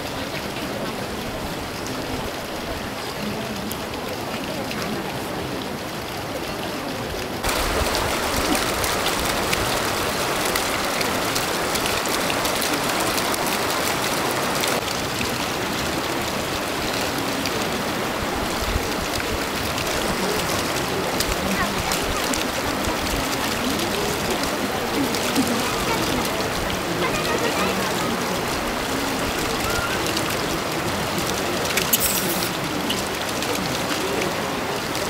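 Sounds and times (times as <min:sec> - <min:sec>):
flowing water rushing: 0:00.0 - 0:35.0.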